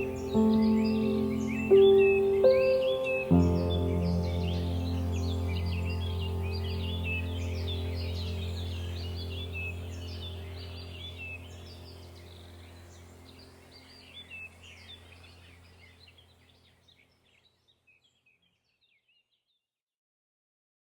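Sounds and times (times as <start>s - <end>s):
steady low hum: 0.0s - 16.8s
small birds chirping: 0.0s - 19.6s.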